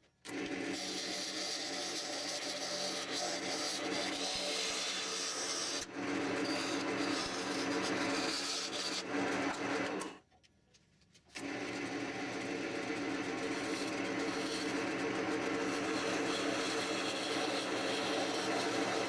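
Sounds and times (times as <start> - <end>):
tool scraping spinning wood: 0.3 - 10.2, 11.3 - 19.0
wood lathe motor hum: 0.3 - 10.2, 11.4 - 19.0.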